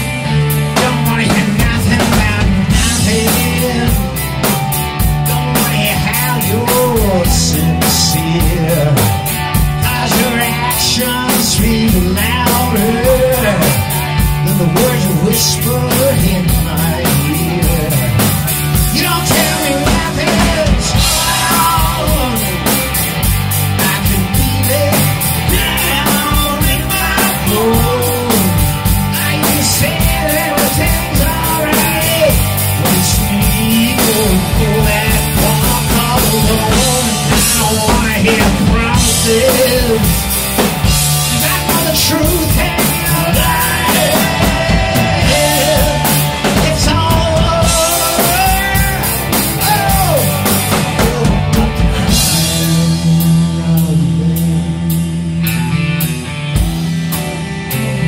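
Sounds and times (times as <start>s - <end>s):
rock band playing loudly: 0.0s - 58.0s.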